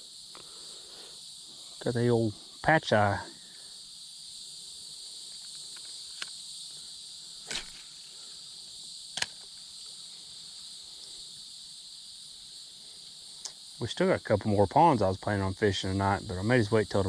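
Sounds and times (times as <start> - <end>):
insects chirping drone: 0.0 - 17.0.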